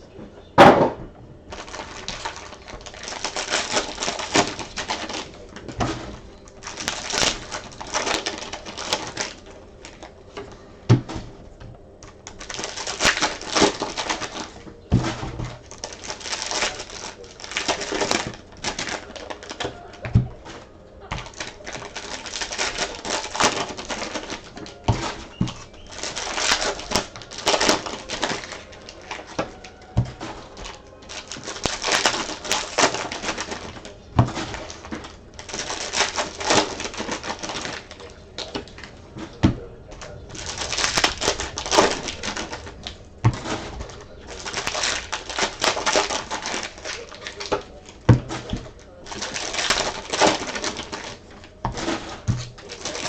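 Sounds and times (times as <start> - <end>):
crinkling wrapper and card rustle: 1.4 - 53.0
card packs being torn open: 1.5 - 53.0.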